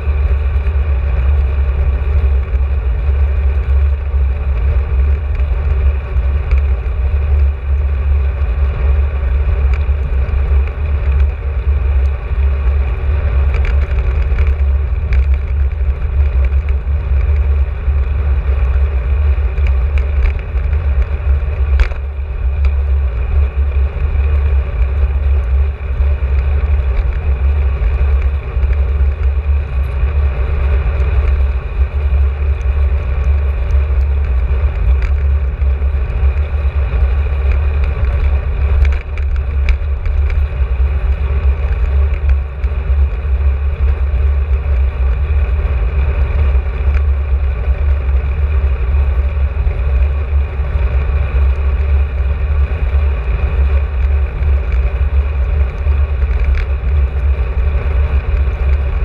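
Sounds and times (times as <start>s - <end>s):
road and tyre hiss: 0.0s - 59.0s
wind buffeting microphone: 0.0s - 59.0s.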